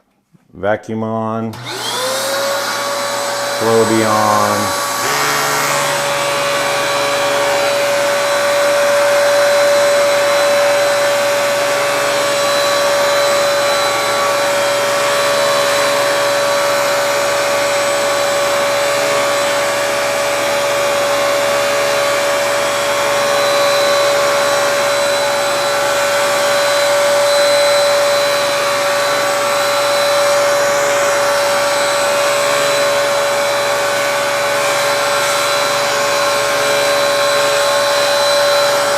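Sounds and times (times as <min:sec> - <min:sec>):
vacuum cleaner running: 0:01.5 - 0:38.9
hair clipper motor: 0:01.6 - 0:38.9.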